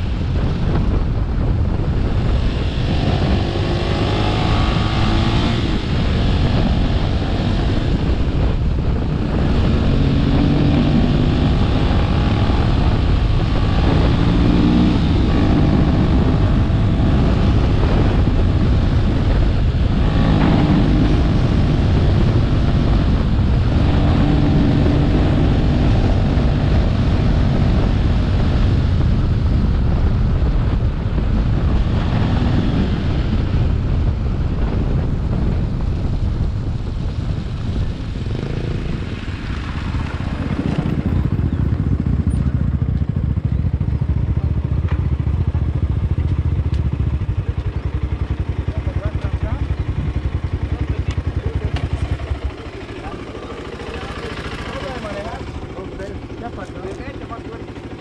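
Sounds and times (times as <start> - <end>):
vehicle engine running: 0.0 - 58.0
wind noise on microphone: 0.0 - 58.0.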